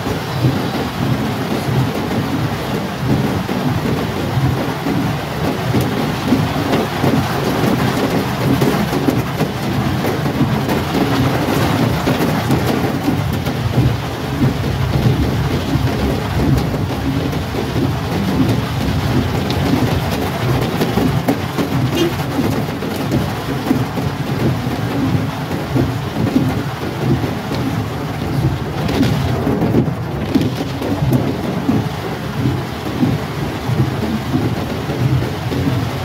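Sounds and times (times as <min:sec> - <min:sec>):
heavy rain on car roof: 0:00.0 - 0:36.0.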